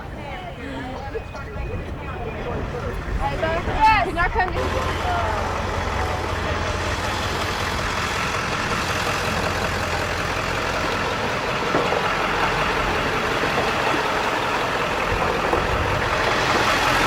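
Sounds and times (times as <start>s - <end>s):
large vehicle engine idling: 0.0s - 17.0s.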